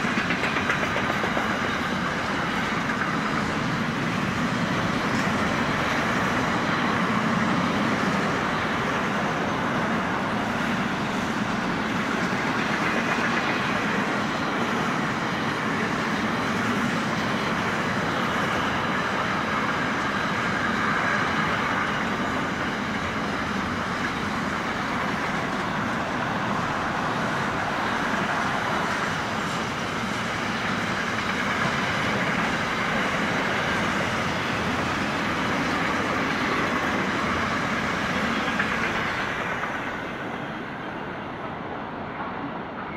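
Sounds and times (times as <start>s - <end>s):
train wheels running on rails: 0.0s - 42.9s.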